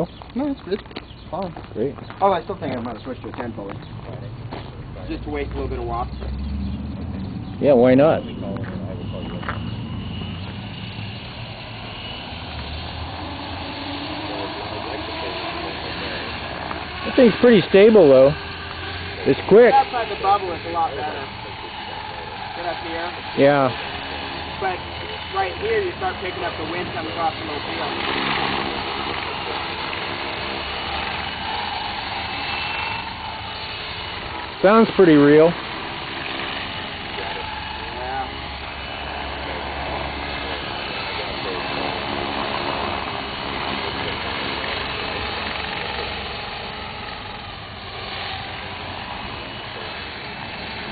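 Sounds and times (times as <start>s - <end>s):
rc helicopter motor whining: 0.0s - 50.9s
rotor whooshing: 2.3s - 50.9s.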